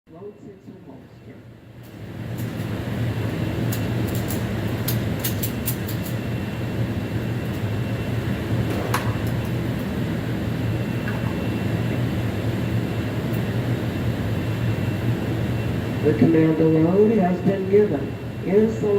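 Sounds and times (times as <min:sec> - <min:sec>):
machinery hum and rumble: 0:00.1 - 0:18.9.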